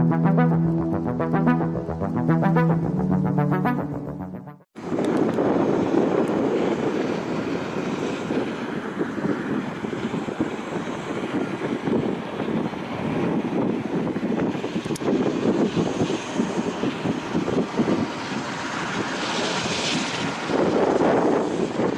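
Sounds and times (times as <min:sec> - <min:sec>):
aircraft engine rushing: 0:00.0 - 0:21.9.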